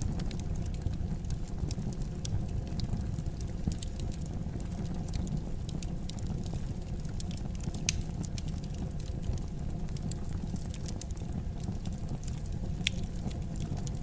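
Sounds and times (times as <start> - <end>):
fire crackles and pops: 0.0 - 14.0
fire rumbling in a fireplace: 0.0 - 14.0.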